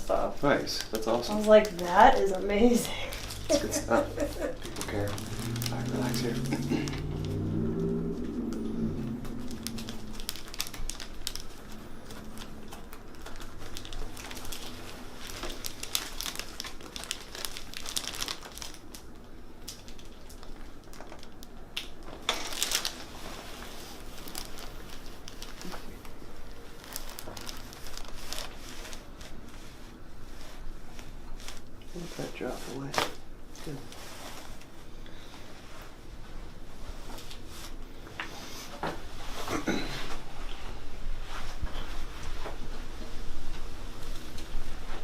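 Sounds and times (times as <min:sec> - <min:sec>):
clothing rustling and crinkling: 0:00.1 - 0:45.0.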